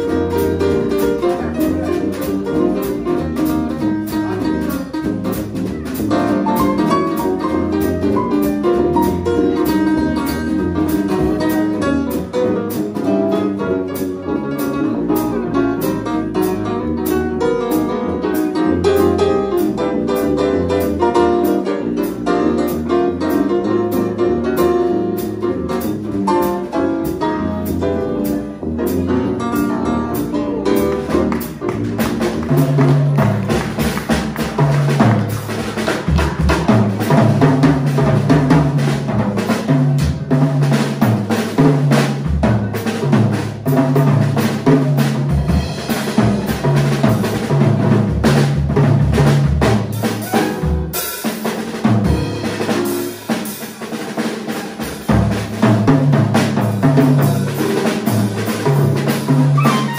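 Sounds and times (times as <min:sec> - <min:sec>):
drum kit with snare rimshots: 0:00.0 - 0:59.9
swing jazz band playing: 0:00.0 - 0:59.9.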